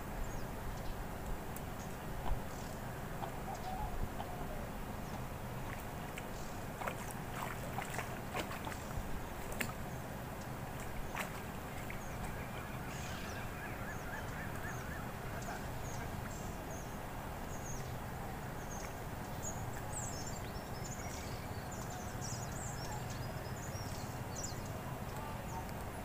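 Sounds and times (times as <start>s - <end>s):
steady low background noise: 0.0s - 26.0s
birds chirping: 1.8s - 26.0s.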